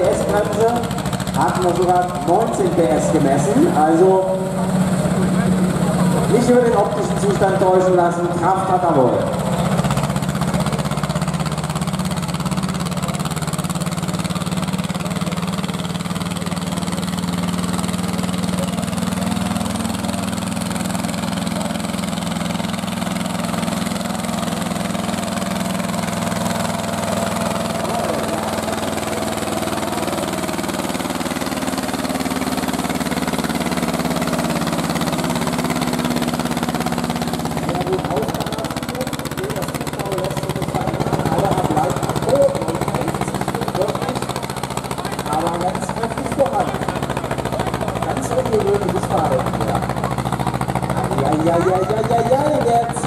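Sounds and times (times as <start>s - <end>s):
diesel tractor engine under load: 0.0s - 53.0s.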